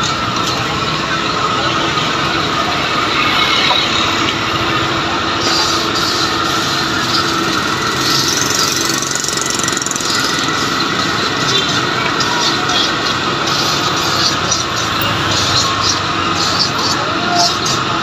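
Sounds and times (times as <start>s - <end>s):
busy street market din: 0.0s - 18.0s
engine noise: 0.0s - 18.0s.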